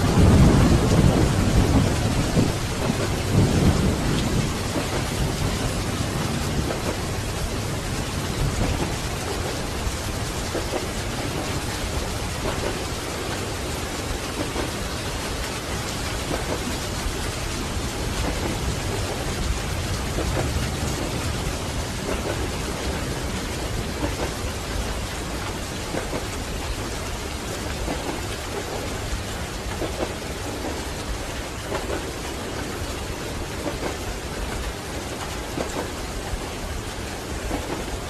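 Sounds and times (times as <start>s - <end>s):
dense rain: 0.0s - 38.0s.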